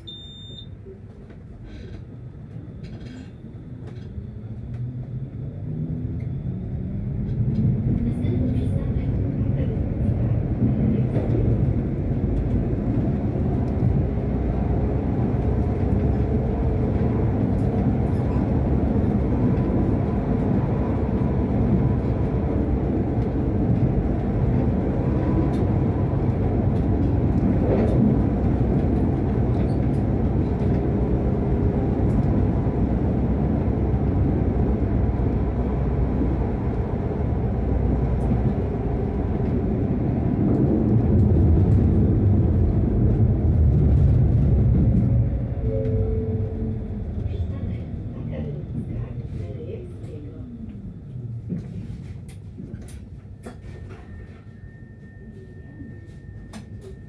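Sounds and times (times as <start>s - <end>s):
tram wheels rumbling on rails: 0.8s - 57.0s.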